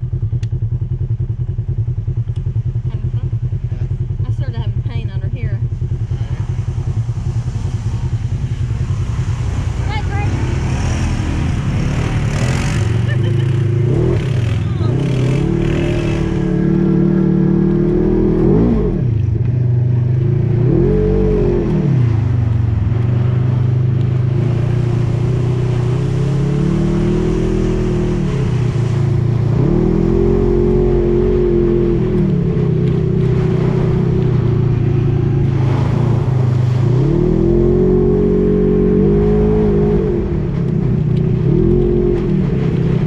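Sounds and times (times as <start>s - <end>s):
off-road vehicle engine revving: 0.0s - 43.0s.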